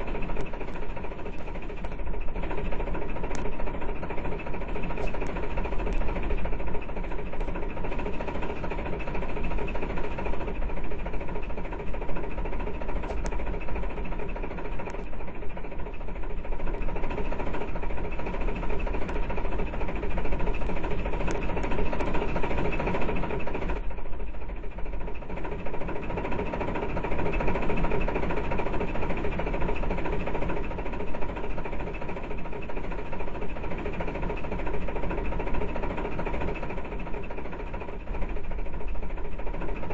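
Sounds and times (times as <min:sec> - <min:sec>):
machine running with rattle: 0:00.0 - 0:39.9
steady high hum: 0:00.0 - 0:39.9.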